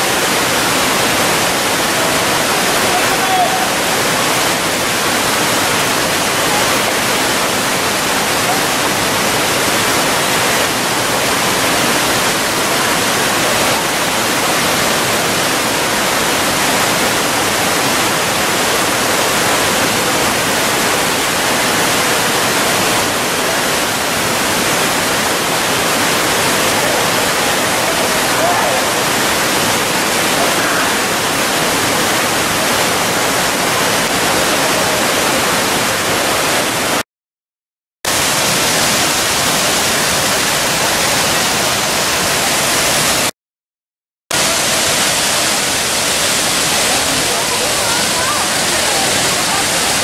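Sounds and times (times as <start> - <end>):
waterfall rushing: 0.0 - 37.0, 38.1 - 43.3, 44.3 - 50.0.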